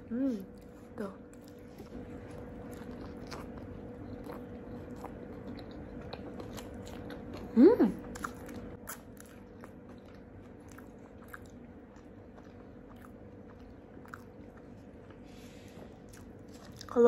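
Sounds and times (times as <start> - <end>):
person chewing food: 0.5 - 17.0.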